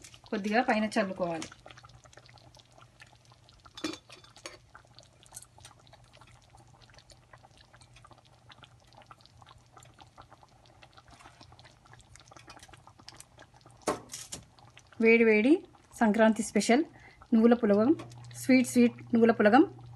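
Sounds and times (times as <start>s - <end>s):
liquid pouring and dripping: 0.0s - 15.0s, 17.0s - 19.9s.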